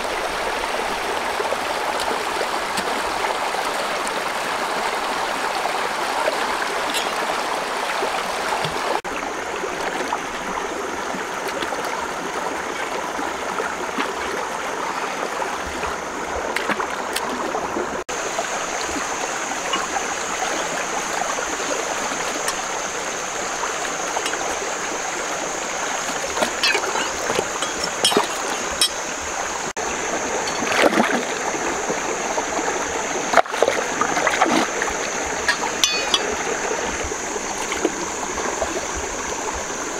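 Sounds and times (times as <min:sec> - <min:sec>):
stream rushing over rocks: 0:00.0 - 0:39.9
water splashing: 0:00.0 - 0:39.9.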